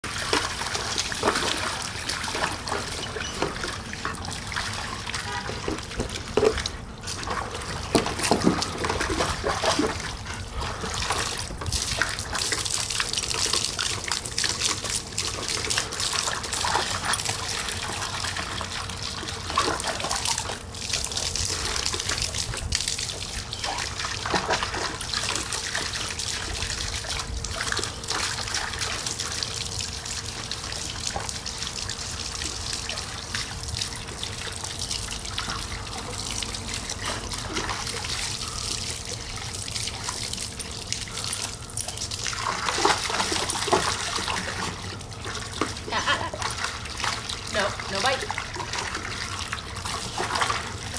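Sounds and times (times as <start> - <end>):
hose water splashing into pool: 0.0 - 50.9.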